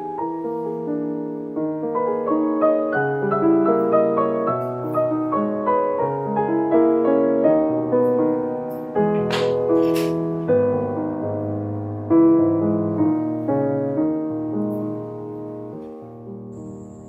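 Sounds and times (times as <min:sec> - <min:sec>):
background piano music: 0:00.0 - 0:17.0.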